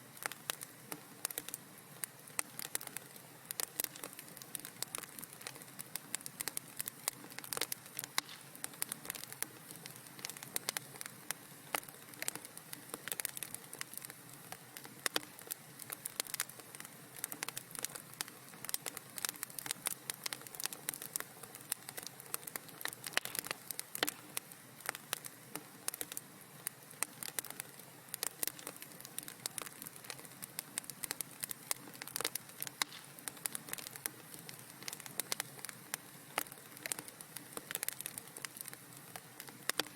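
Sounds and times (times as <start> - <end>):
soft hiss: 0.0 - 39.9
wood fire crackling: 0.0 - 39.9.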